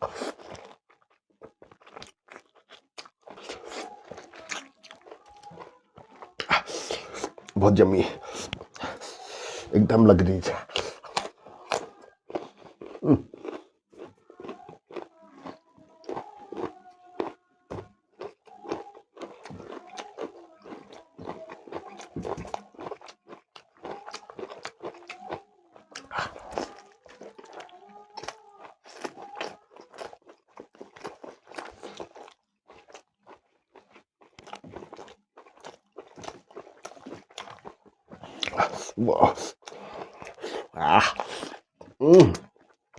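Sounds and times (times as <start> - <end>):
wet chewing and mouth clicks: 0.0 - 42.9.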